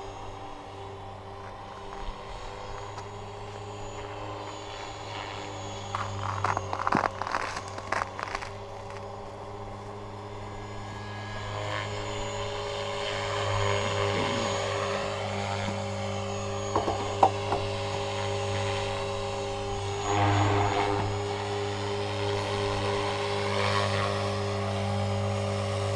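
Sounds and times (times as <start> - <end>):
rc helicopter rotor whine: 0.0 - 25.9.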